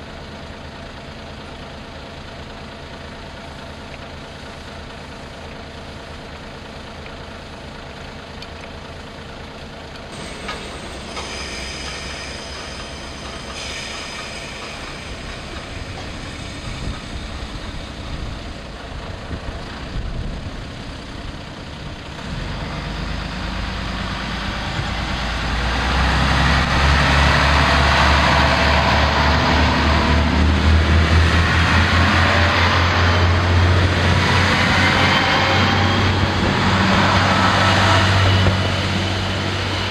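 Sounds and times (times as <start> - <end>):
diesel railcar engine: 0.0 - 39.9.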